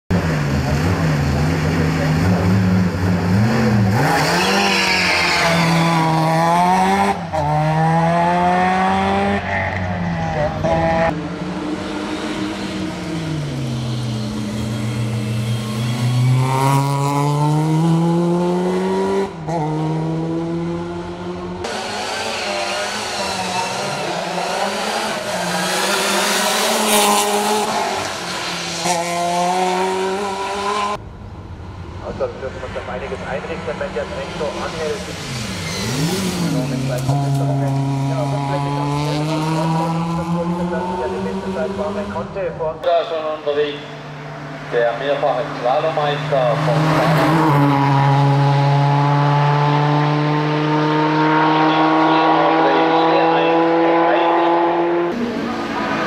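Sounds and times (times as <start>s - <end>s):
race car engine revving: 0.1s - 31.0s, 32.1s - 56.0s.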